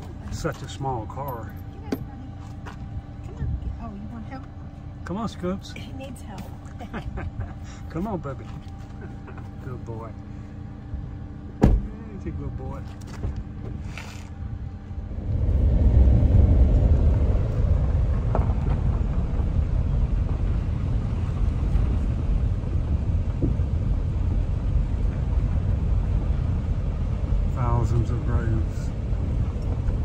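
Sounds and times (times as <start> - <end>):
car low hum: 0.0 - 30.0
loud road rumble: 0.0 - 30.0.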